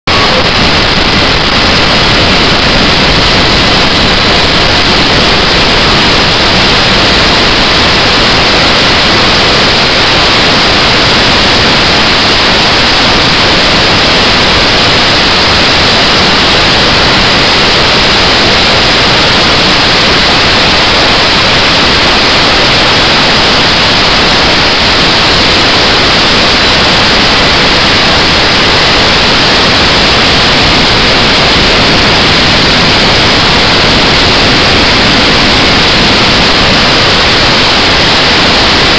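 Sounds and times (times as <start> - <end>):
pressurised air rushing: 0.0 - 38.9.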